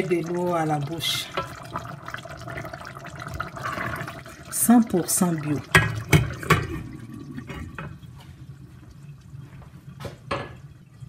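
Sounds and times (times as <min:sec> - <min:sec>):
stew simmering: 0:00.0 - 0:11.0.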